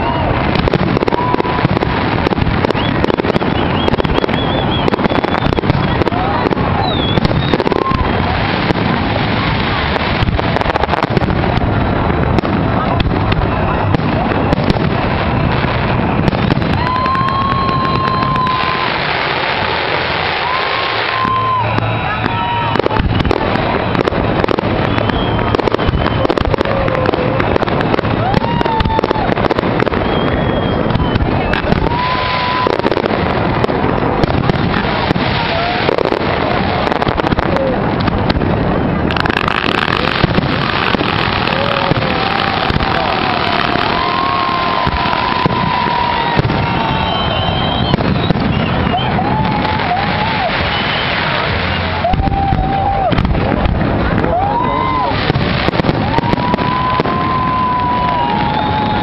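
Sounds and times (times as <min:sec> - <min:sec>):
high wavering firework whistles: 0:00.0 - 0:11.3, 0:12.7 - 0:33.1, 0:38.5 - 0:53.3, 0:54.2 - 0:59.0
fireworks bangs and crackles: 0:00.0 - 0:59.0.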